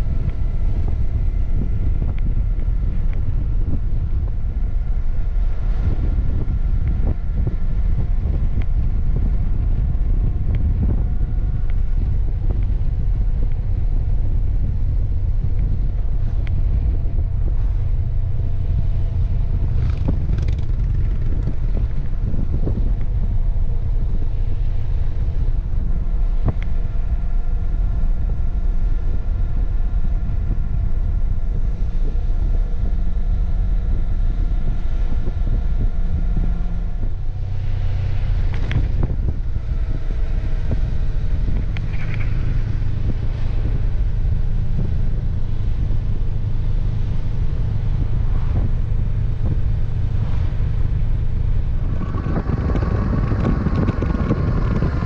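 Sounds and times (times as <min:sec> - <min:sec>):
motorcycle engine droning: 0:00.0 - 0:55.0
road rumble: 0:00.0 - 0:55.0
wind rushing on microphone: 0:00.0 - 0:55.0.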